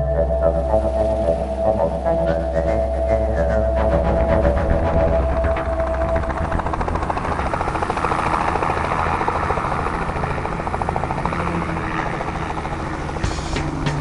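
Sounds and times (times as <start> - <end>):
helicopter rotor chopping: 0.0 - 14.0.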